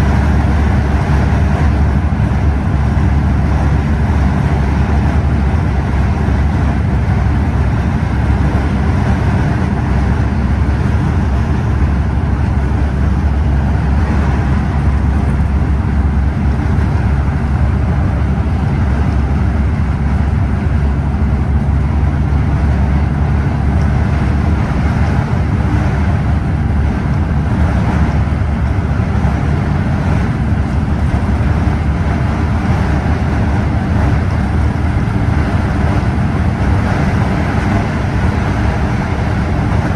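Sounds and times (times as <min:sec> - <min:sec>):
coach engine drone: 0:00.0 - 0:39.9
road and tyre noise: 0:00.0 - 0:39.9.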